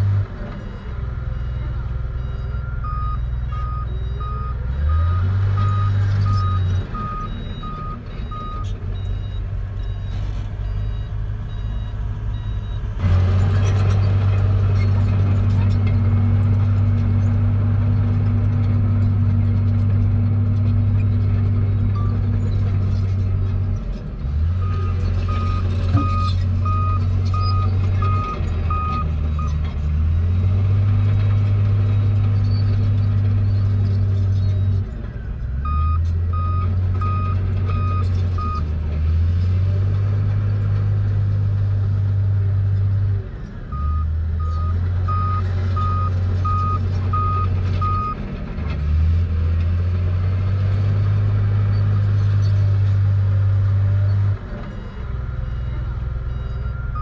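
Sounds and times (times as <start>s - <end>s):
diesel earthmoving machinery: 0.0s - 57.0s.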